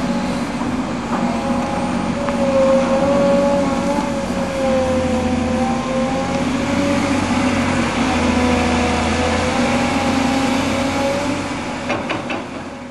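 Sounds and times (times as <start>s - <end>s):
excavator diesel engine under load: 0.0s - 12.9s.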